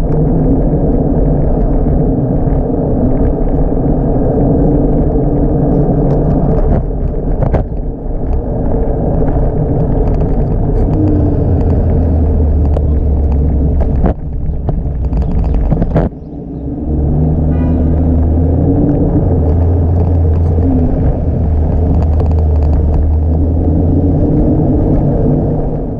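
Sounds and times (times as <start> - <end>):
road and traffic rumble: 0.0 - 25.9.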